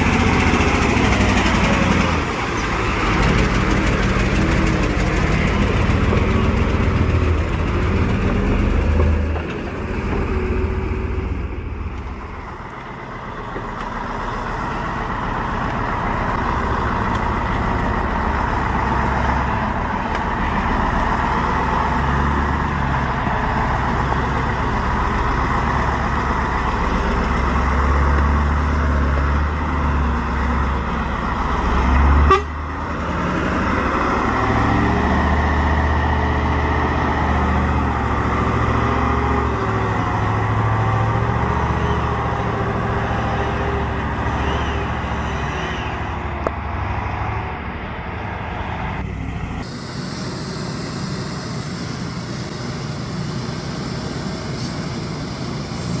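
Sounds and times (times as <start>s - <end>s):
diesel truck engines running: 0.0s - 56.0s.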